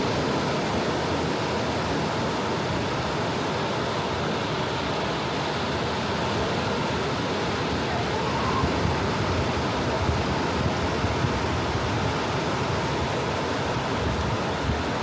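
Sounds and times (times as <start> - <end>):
ocean waves washing on beach: 0.0 - 15.0.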